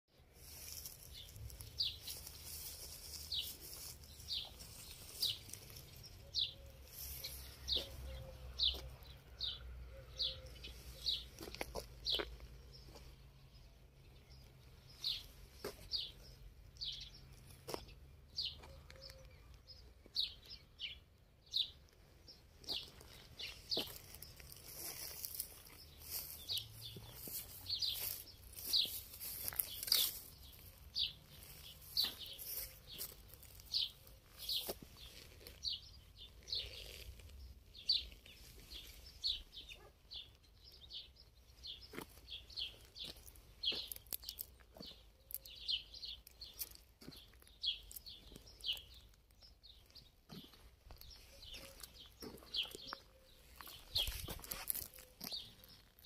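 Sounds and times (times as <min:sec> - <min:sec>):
small birds chirping: 0:00.1 - 0:56.0.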